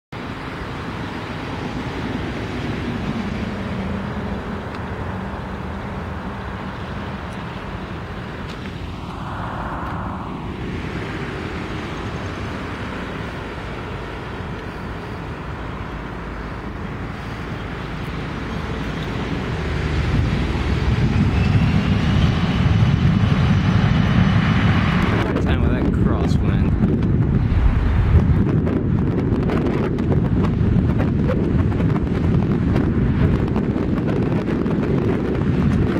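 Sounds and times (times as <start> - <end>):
high engine whine: 0.1 - 35.9
jet engine rumble: 0.2 - 35.9.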